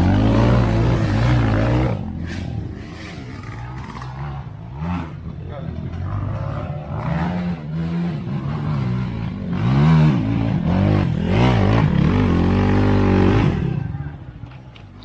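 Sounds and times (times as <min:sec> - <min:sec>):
vehicle engine revving: 0:00.0 - 0:05.3, 0:06.0 - 0:13.8.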